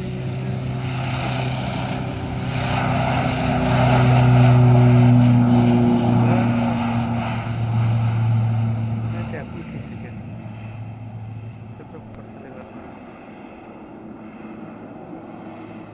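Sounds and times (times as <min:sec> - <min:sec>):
turboprop aircraft taking off: 0:00.0 - 0:15.9.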